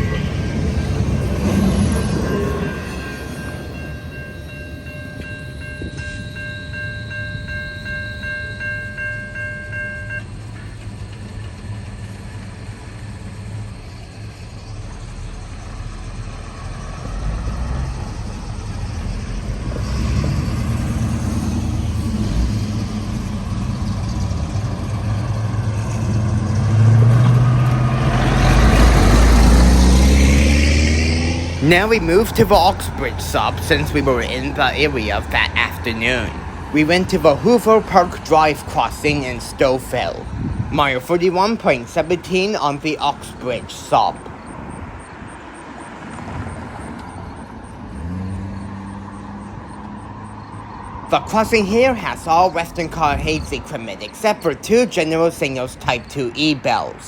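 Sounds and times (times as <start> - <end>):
locomotive engine rumble: 0.0 - 45.4, 46.4 - 57.0
freight train rail noise: 0.0 - 57.0.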